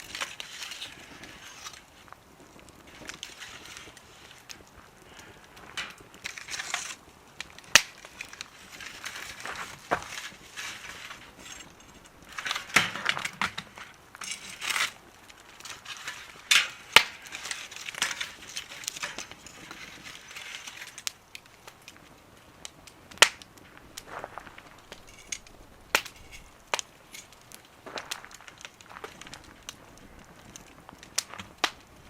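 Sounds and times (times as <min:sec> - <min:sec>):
burning wood popping: 0:00.0 - 0:32.0
wood fire crackling: 0:00.0 - 0:32.0.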